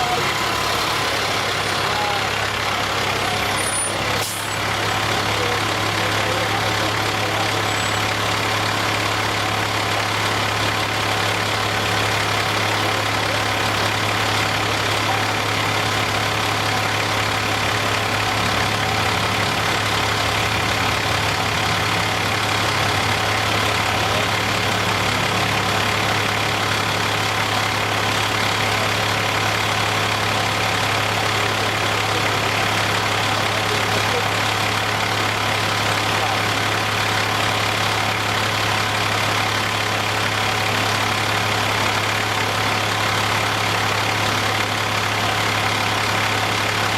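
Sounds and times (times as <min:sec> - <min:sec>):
large vehicle engine idling: 0:00.0 - 0:46.9.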